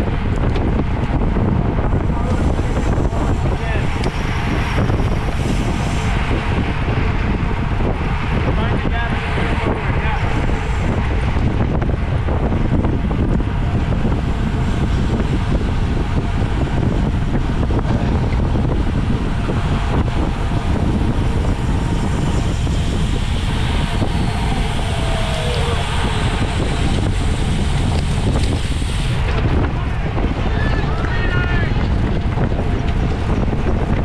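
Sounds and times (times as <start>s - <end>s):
wind buffeting on microphone: 0.0s - 34.0s.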